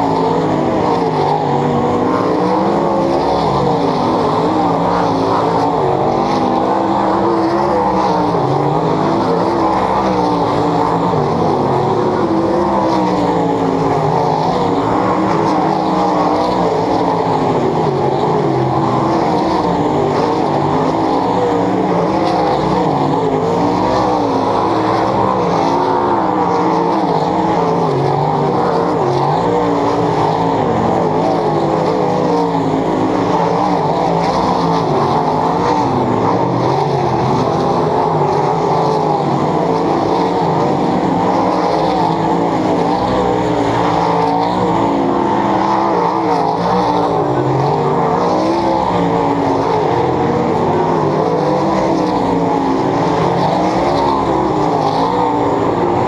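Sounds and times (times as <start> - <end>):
race car engines roaring: 0.0 - 56.0.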